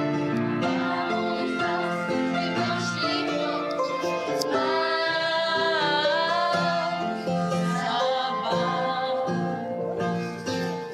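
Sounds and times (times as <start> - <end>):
piano accompaniment: 0.0 - 10.9
person singing: 0.8 - 10.9.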